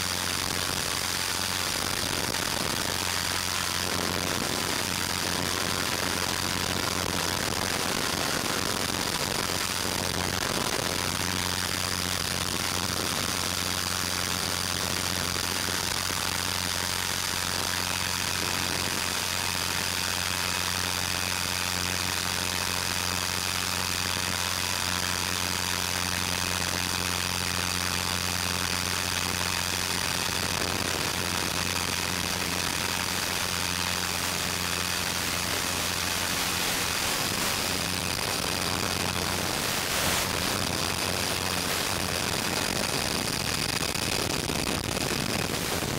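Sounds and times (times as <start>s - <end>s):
high whine: 0.0s - 45.9s
rc helicopter motor drone: 0.0s - 45.9s.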